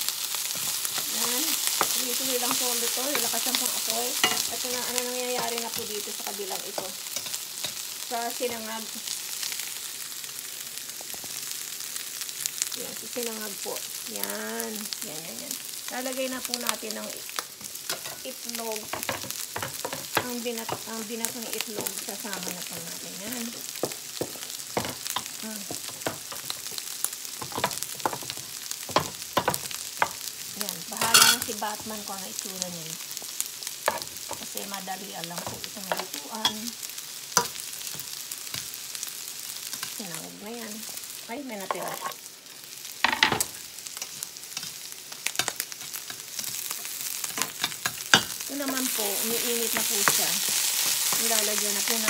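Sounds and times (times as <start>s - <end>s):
rice sizzling in a wok: 0.0s - 52.0s.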